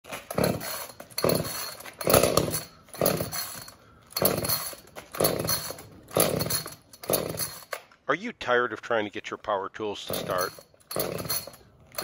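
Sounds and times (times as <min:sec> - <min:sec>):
chainsaw recoil starter pulls: 0:00.1 - 0:08.0, 0:10.0 - 0:12.0.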